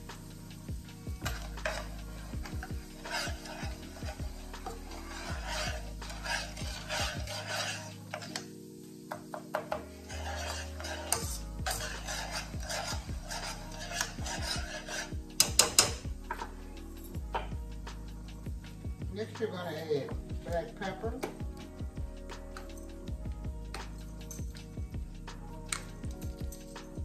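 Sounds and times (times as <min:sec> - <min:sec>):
spoon scraping a skillet: 0:00.0 - 0:18.9, 0:20.0 - 0:23.1, 0:23.7 - 0:27.0
background music of low notes: 0:00.0 - 0:27.0.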